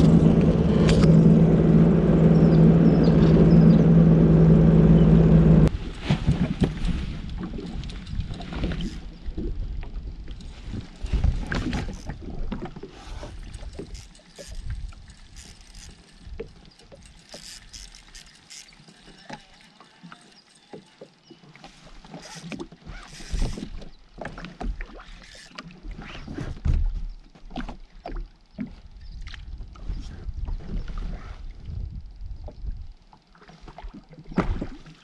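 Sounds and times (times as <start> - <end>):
clicks and knocks of rod and reel: 0.0 - 1.3, 5.9 - 35.0
water lapping against a hull: 0.0 - 35.0.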